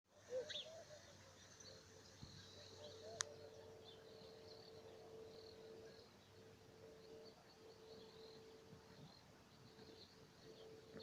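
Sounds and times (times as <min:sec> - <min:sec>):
faint birdsong chirps: 0:00.1 - 0:11.0
steady low hum: 0:00.1 - 0:11.0.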